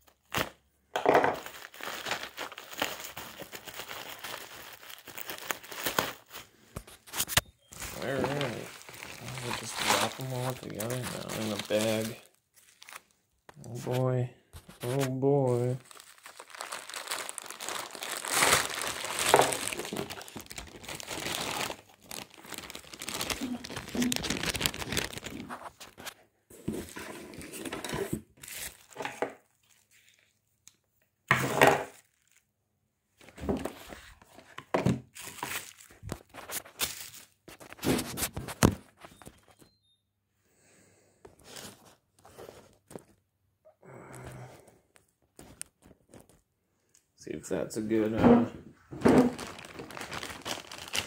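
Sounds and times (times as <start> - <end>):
bubble wrap and plastic bag crinkling: 0.0 - 30.7, 31.8 - 32.5, 33.2 - 39.6, 41.4 - 43.3, 44.6 - 46.6, 48.9 - 51.0.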